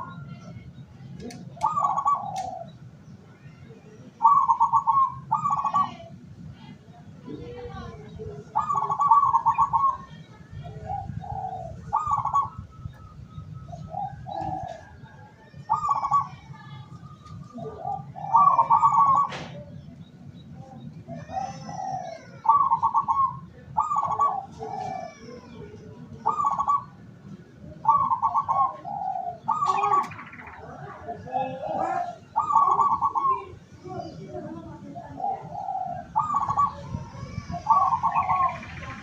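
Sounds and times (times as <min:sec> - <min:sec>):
doves cooing: 0:00.0 - 0:00.5, 0:01.2 - 0:03.2, 0:03.9 - 0:06.5, 0:07.2 - 0:39.0
small birds chirping: 0:00.0 - 0:39.0.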